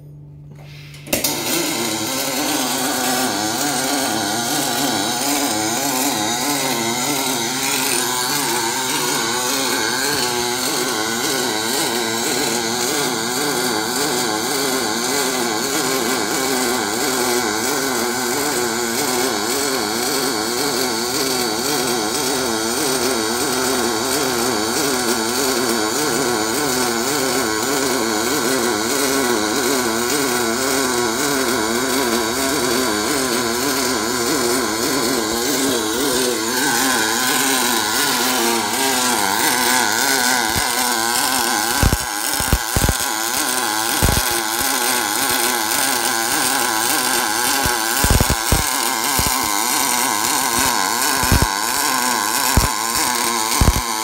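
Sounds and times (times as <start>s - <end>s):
welding arc buzzing: 0.0s - 54.0s.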